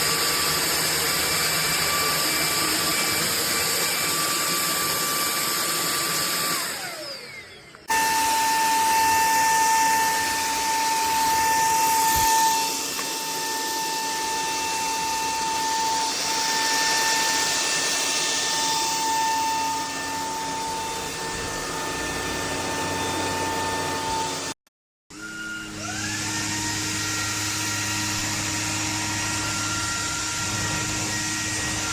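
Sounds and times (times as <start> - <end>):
vacuum motor whine: 0.0 - 31.9.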